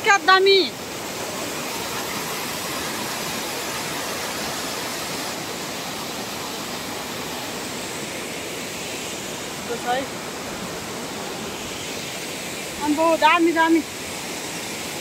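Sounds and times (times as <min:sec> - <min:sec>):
waterfall rushing over boulders: 0:00.0 - 0:15.0.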